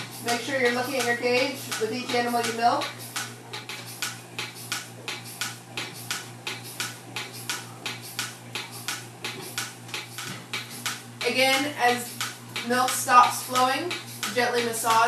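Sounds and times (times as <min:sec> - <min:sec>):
milking pulsator hissing: 0:00.0 - 0:15.0
vacuum pump hum: 0:00.0 - 0:15.0.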